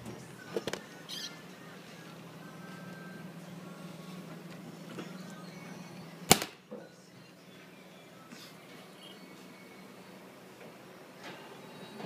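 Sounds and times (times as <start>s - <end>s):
vending machine humming: 0.0s - 12.0s.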